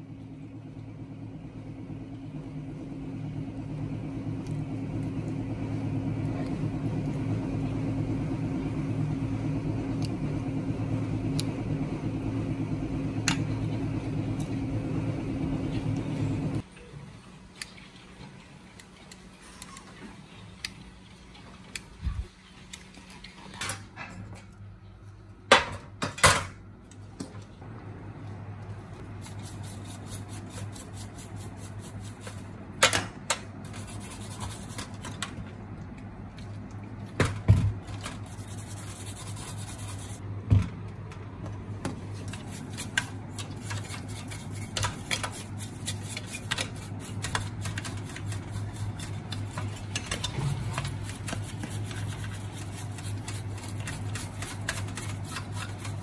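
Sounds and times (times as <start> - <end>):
steady low hum: 0.0 - 16.6, 27.6 - 56.0.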